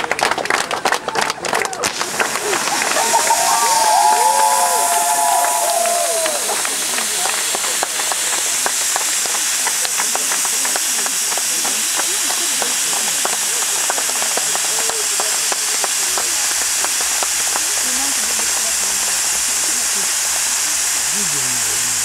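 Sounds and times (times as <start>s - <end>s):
faint voices: 0.0s - 22.0s
fireworks fountains hissing and crackling: 0.0s - 22.0s.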